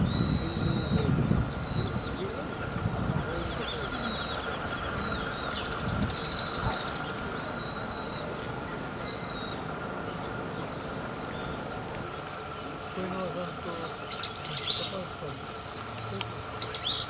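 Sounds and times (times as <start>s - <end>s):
faint bird chirps: 0.0s - 2.4s, 3.2s - 17.0s
insect drone: 0.0s - 17.0s.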